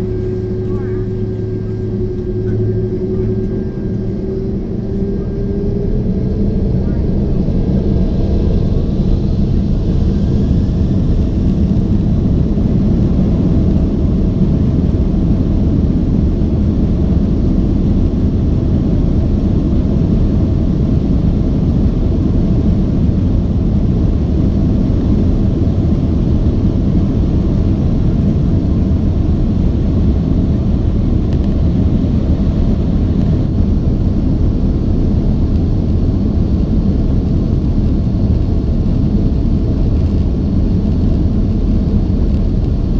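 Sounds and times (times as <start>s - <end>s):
jet engines rumbling in cabin: 0.0s - 42.9s.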